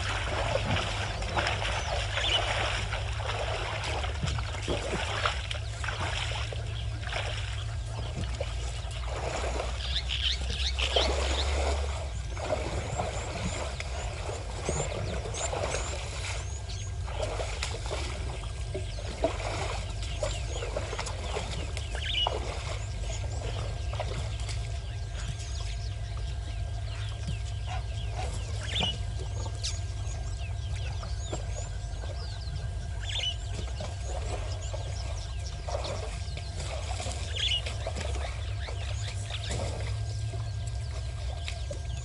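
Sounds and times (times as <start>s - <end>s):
birds chirping: 0.0s - 42.0s
water sloshing and splashing: 0.0s - 42.0s.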